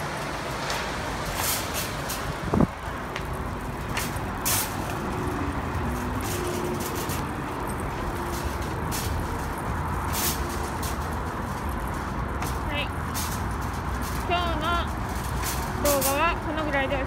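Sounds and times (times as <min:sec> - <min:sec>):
shopping cart rattling over pavement: 0:00.0 - 0:17.0
traffic noise: 0:00.0 - 0:17.0.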